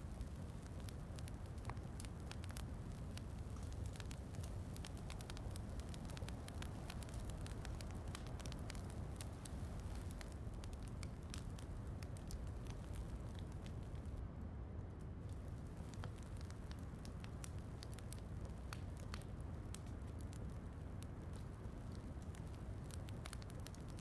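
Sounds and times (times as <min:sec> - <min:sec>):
wood fire crackling and popping: 0:00.0 - 0:14.2, 0:15.2 - 0:24.0.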